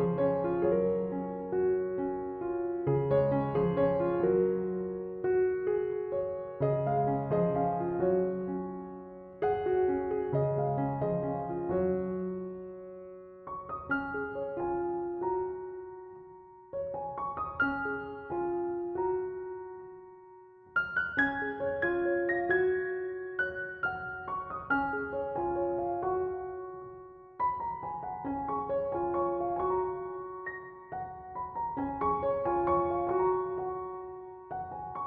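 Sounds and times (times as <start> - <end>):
gentle piano music: 0.0 - 35.0.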